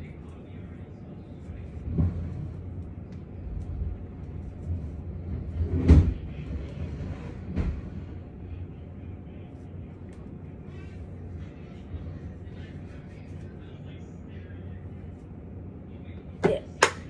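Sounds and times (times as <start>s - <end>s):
low rumble: 0.0s - 16.3s.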